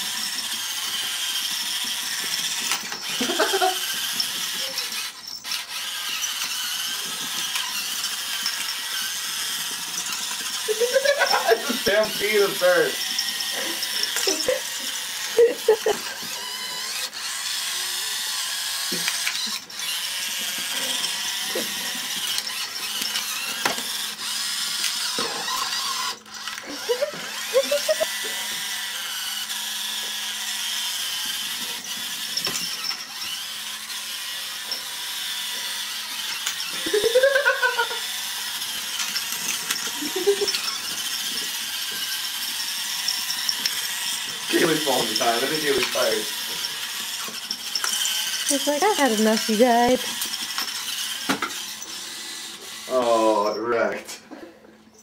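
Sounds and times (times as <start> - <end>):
toy car motor whirring: 0.0 - 55.0.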